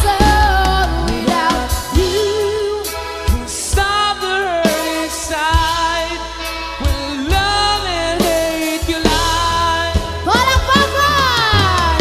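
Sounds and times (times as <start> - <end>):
band playing power ballad: 0.0 - 12.0
lead singer holding long notes: 0.0 - 12.0.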